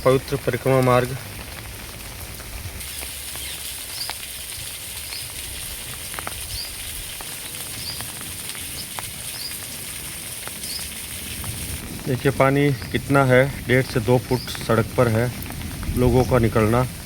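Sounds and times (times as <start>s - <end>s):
drips and splashes: 0.0s - 17.0s
rain falling on water: 0.0s - 17.0s.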